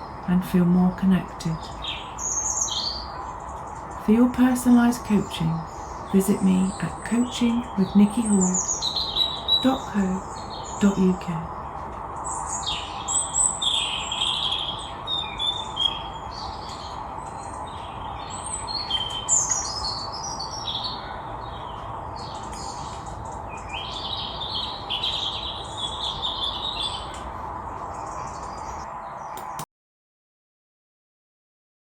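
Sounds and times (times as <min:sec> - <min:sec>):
songbirds singing and chirping: 0:00.0 - 0:29.6.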